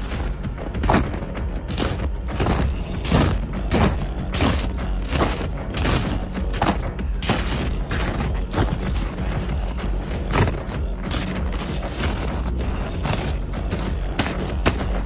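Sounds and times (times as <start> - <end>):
boots crunching through icy snow: 0.0 - 15.0.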